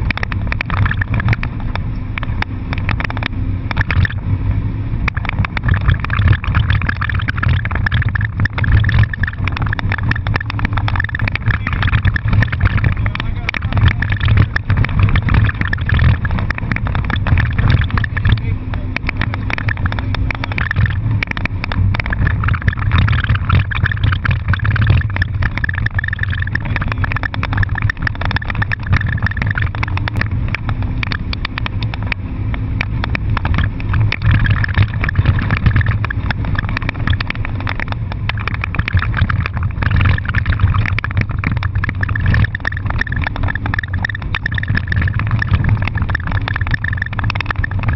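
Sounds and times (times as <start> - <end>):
car engine: 0.0 - 47.9
road noise: 0.0 - 47.9.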